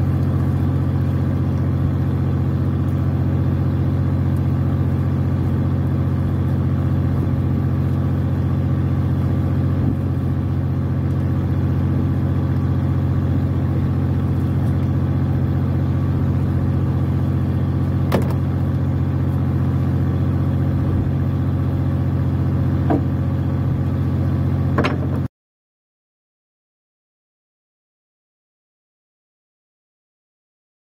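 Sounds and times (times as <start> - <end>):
boat engine droning: 0.0 - 25.3.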